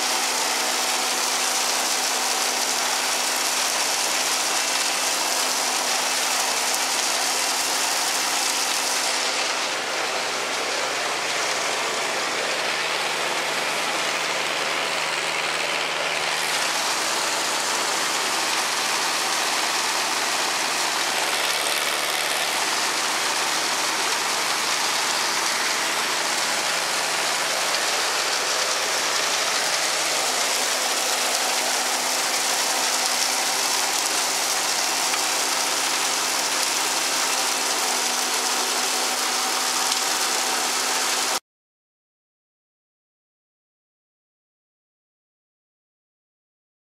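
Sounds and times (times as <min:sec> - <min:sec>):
hiss of falling silage: 0:00.0 - 0:41.4
machine hum: 0:00.0 - 0:41.4.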